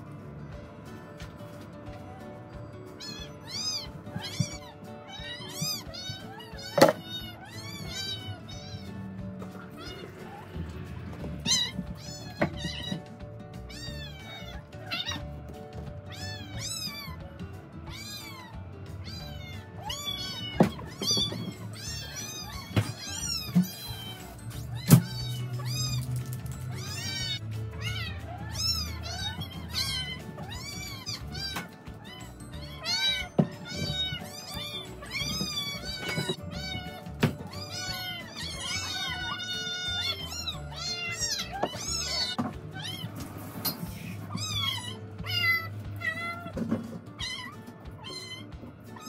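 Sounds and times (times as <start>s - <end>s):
cats meowing: 0.1s - 49.0s.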